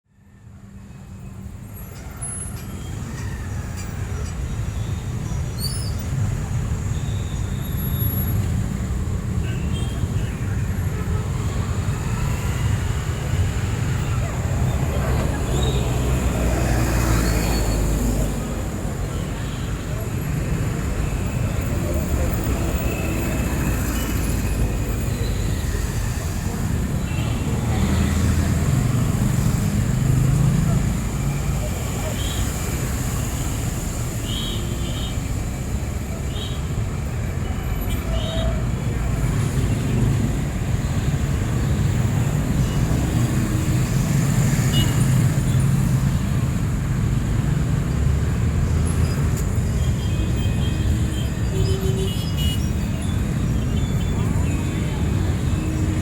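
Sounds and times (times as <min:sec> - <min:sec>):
road traffic rumble: 0:00.2 - 0:56.0.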